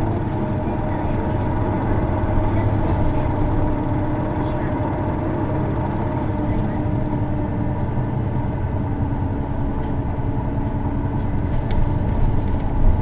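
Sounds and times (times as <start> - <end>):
bus diesel engine and road noise: 0.0 - 13.0.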